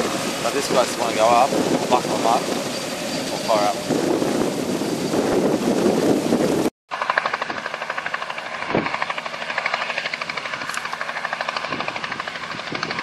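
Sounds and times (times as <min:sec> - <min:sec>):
helicopter rotor chop: 0:00.0 - 0:13.0.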